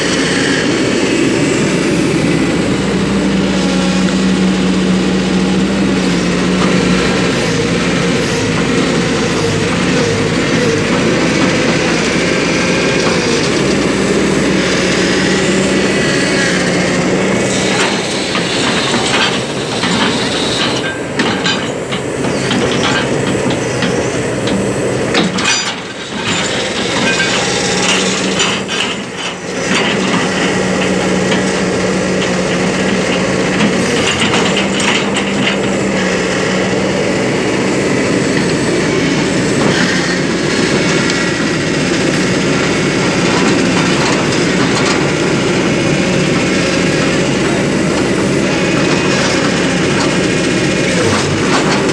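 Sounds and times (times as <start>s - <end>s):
excavator diesel engine running: 0.0s - 51.9s
steel tracks clanking and squealing: 3.4s - 51.9s.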